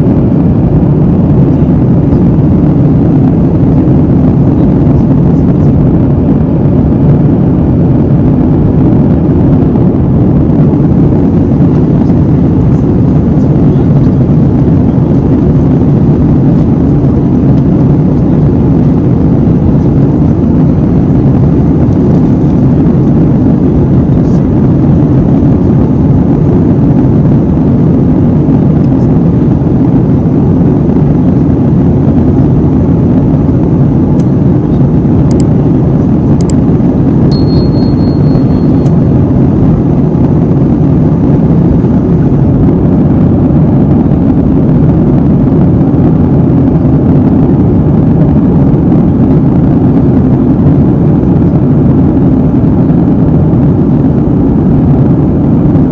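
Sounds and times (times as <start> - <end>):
airliner cabin engine rumble: 0.0 - 55.9.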